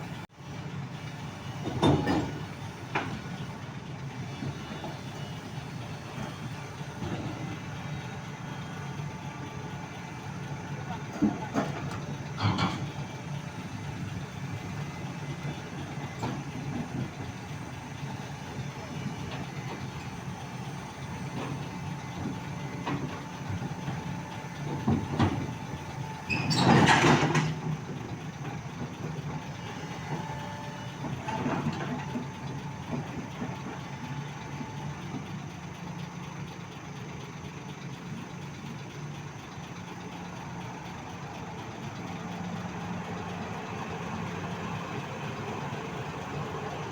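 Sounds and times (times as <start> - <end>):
excavator diesel engine idling: 0.0 - 46.9.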